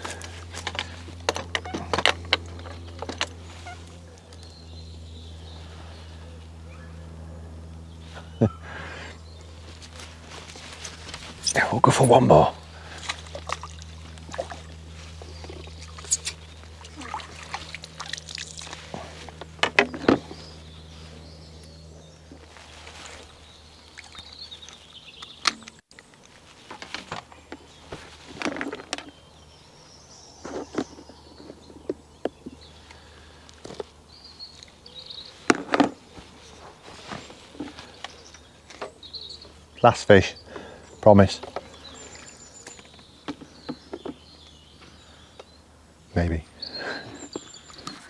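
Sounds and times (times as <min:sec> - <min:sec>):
lakeside ambience: 0:00.0 - 0:48.0.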